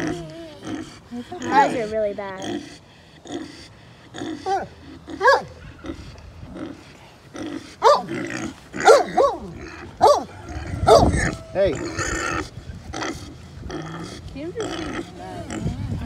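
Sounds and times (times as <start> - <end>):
pig squealing: 0.0 - 6.8, 7.4 - 16.0.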